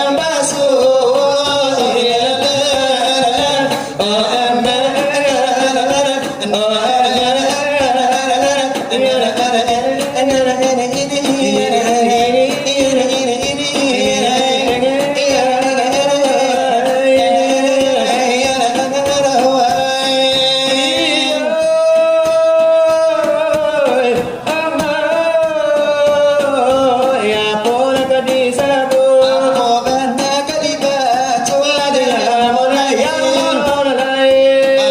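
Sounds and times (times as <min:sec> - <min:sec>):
man chanting a devotional song: 0:00.0 - 0:34.9.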